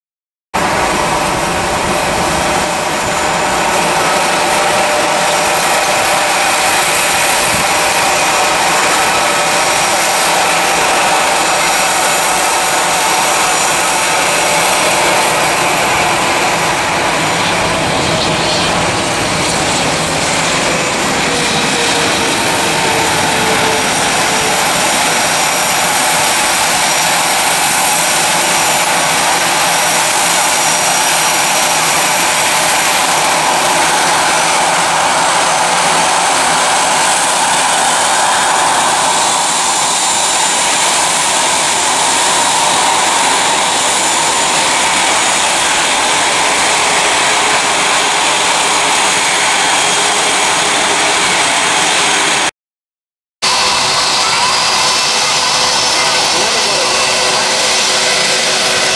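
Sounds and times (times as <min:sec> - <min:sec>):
jet engine rush: 0:00.6 - 0:52.5, 0:53.4 - 0:58.9.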